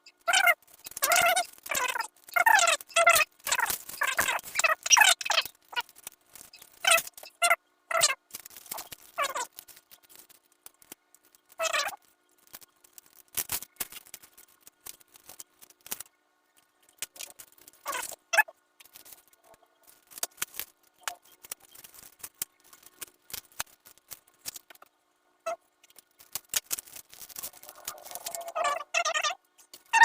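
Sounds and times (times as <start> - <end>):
wrapping paper crackling: 0.1 - 24.9, 25.8 - 28.9.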